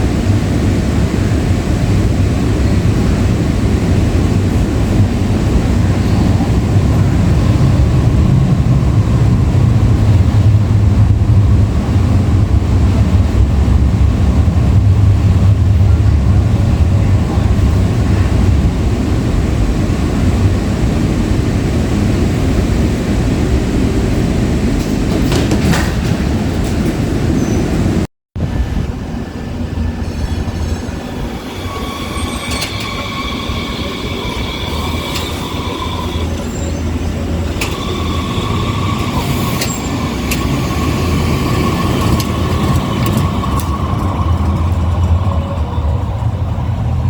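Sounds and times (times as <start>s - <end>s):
light rail car rumbling: 0.0s - 47.0s.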